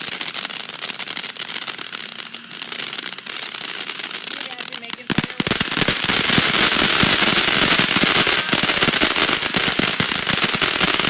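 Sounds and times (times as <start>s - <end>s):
firework crackling pops: 0.0s - 11.0s
firework hiss: 0.0s - 11.0s.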